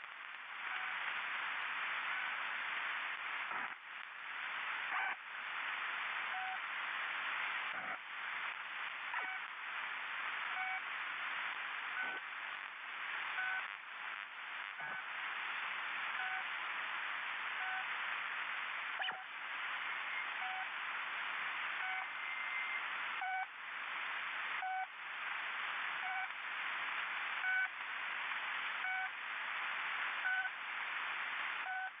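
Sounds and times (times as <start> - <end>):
static hiss: 0.0 - 32.0.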